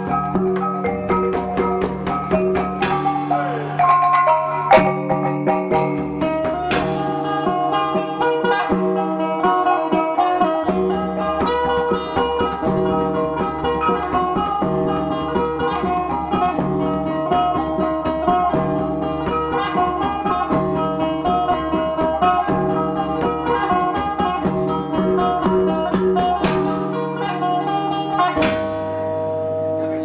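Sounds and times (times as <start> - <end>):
low repeating lute figure: 0.0 - 30.0
plucked lute melody: 0.0 - 30.0.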